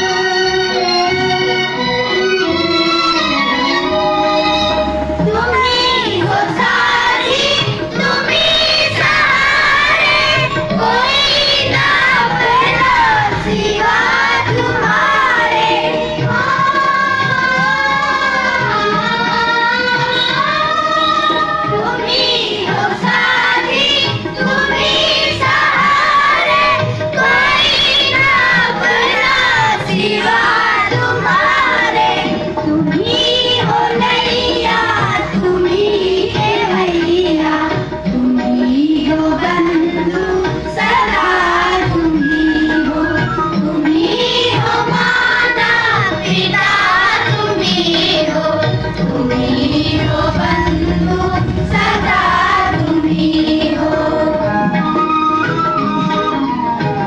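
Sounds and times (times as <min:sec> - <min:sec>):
children singing together: 0:00.0 - 0:55.0.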